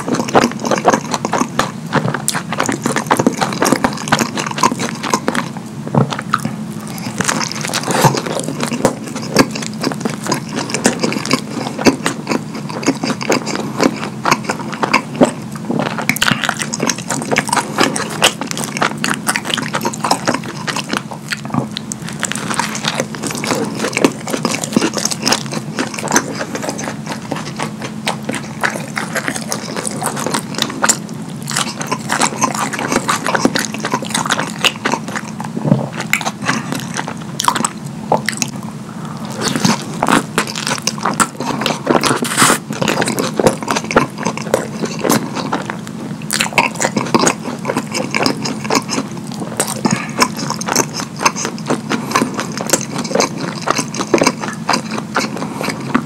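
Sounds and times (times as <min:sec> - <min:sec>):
messy chewing: 0:00.0 - 0:56.0
mouth clicks and crackles: 0:00.0 - 0:56.0.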